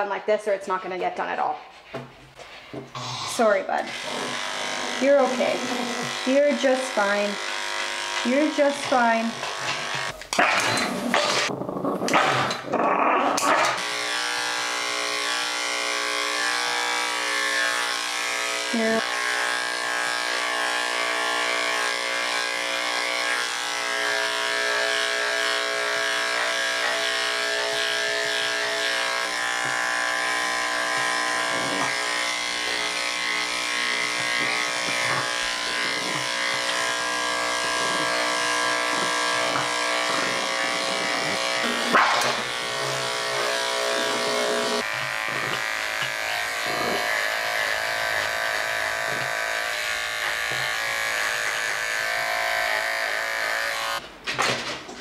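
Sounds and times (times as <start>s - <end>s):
electric clippers humming: 2.8s - 11.5s, 13.4s - 54.0s.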